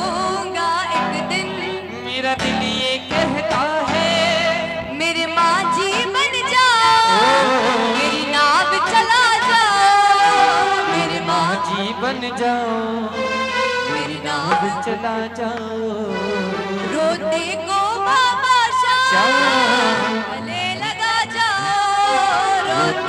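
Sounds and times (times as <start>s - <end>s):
sustained accompaniment: 0.0s - 18.4s, 19.0s - 23.0s
woman singing into a microphone: 0.0s - 23.0s.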